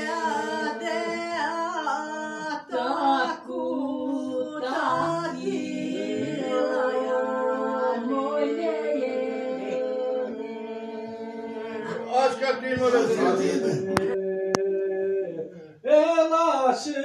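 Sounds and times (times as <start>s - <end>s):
voices singing unaccompanied: 0.0s - 16.3s.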